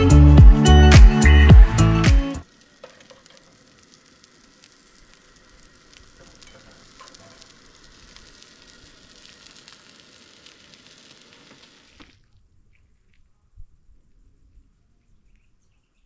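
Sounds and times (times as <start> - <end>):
crackling sizzle: 0.0 - 13.3.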